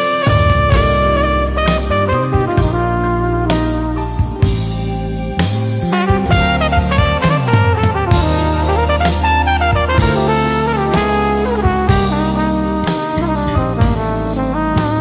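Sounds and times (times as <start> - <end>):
upbeat jazz with brass and drums: 0.0 - 15.0.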